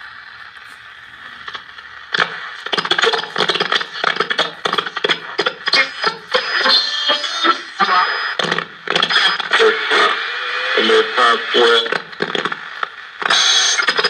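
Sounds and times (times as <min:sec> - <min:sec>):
radio static hiss: 0:00.0 - 0:14.0
radio tuning crackling: 0:00.5 - 0:14.0.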